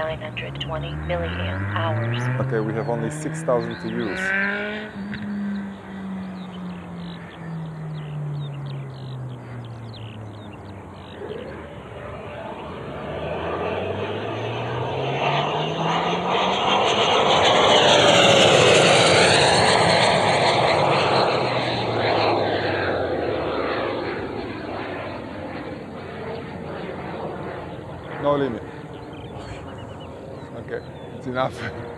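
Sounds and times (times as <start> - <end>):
rc jet rushing whine: 0.0 - 31.9.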